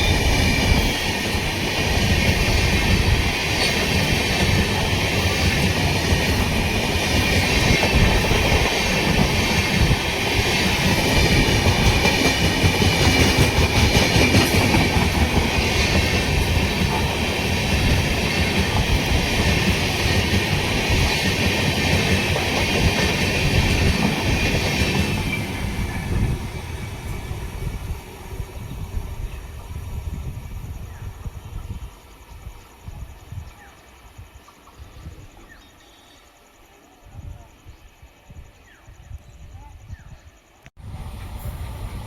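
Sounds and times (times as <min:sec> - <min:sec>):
passenger train passing: 0:00.0 - 0:40.1, 0:40.8 - 0:42.0.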